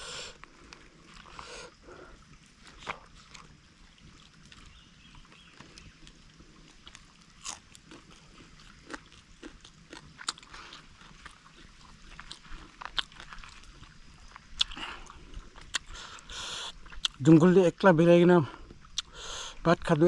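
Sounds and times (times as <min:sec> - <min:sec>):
person chewing with crunches: 0:00.0 - 0:17.3, 0:18.6 - 0:19.3.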